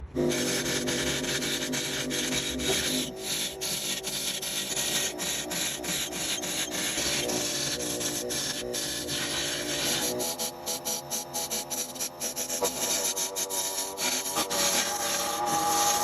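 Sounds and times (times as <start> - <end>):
lathe motor hum: 0.0 - 16.0
lathe tool hissing on wood: 0.0 - 16.0
wood being sanded: 0.1 - 16.0.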